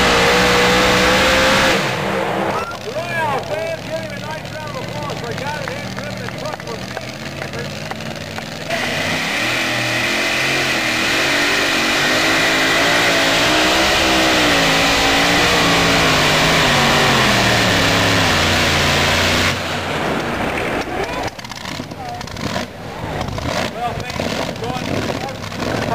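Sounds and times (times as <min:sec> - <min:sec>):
pulling truck engine at full throttle: 0:00.0 - 0:25.9.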